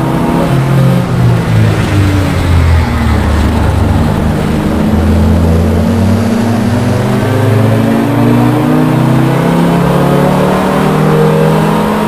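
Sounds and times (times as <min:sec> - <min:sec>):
car engine from inside: 0:00.0 - 0:12.0
road and wind noise: 0:00.0 - 0:12.0.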